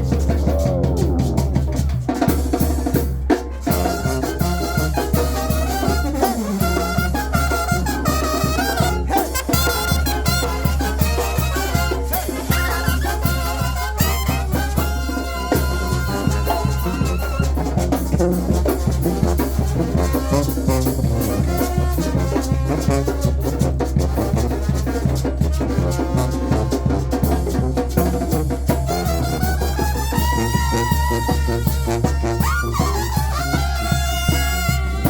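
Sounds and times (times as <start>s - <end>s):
steady drum beat: 0.0s - 35.0s
trumpets and trombones: 0.0s - 35.0s.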